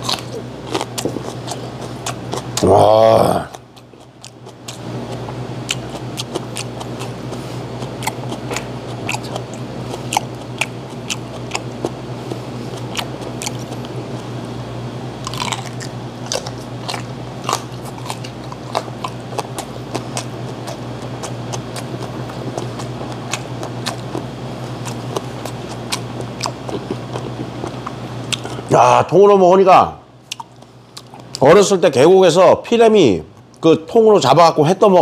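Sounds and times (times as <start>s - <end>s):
crunchy chewing of grilled fish: 0.0s - 28.7s, 30.2s - 31.4s
steady low hum: 0.0s - 35.0s.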